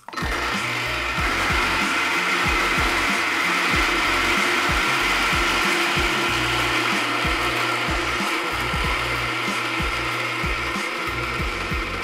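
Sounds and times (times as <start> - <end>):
electric coffee grinder running: 0.0 - 12.0.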